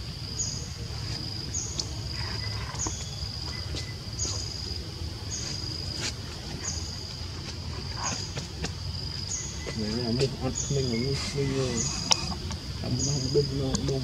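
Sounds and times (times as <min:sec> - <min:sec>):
insect high-pitched buzz: 0:00.0 - 0:14.0.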